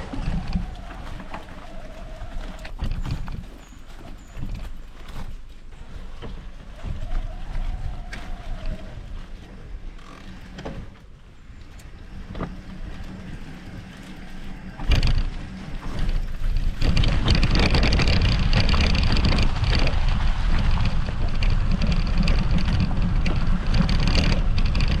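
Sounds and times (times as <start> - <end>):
tyres rumbling on trail: 0.0 - 25.0
wind on microphone: 0.0 - 25.0.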